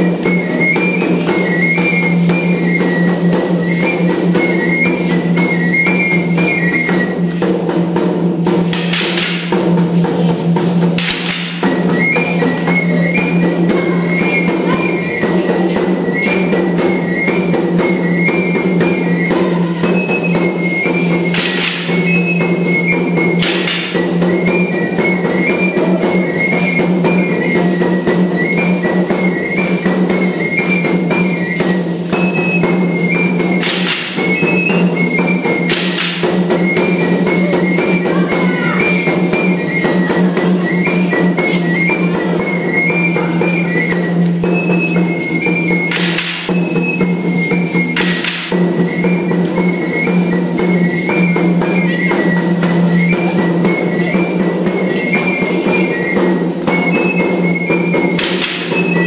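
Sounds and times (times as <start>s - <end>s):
hand drum beating: 0.0s - 59.0s
high flute melody: 0.0s - 59.0s.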